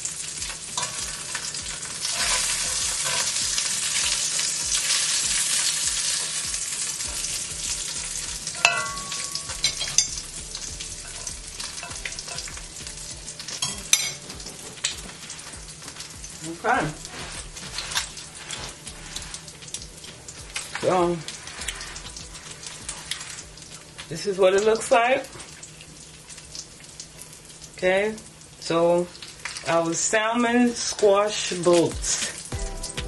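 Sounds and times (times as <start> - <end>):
food sizzling: 0.0 - 33.0.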